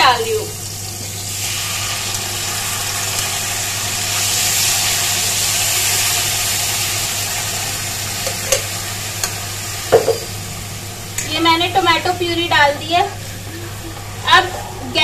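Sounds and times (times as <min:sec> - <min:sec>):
puree sizzling in hot oil: 0:00.0 - 0:15.0.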